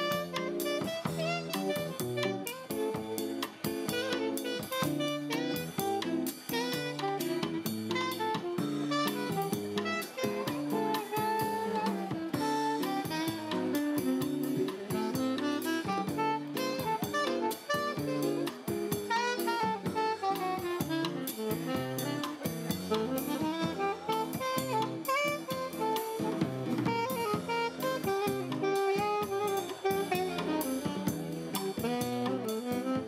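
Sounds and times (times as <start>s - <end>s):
drums keeping a steady beat: 0.0s - 33.0s
saxophone melody: 0.0s - 33.0s.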